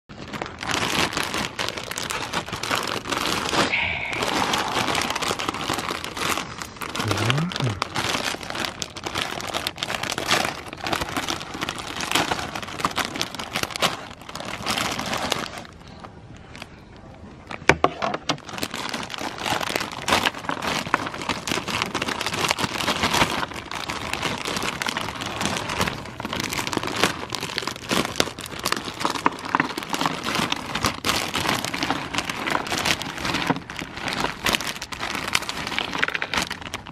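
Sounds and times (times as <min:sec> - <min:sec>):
plastic wrapper crinkling: 0:00.1 - 0:16.7, 0:17.4 - 0:36.9.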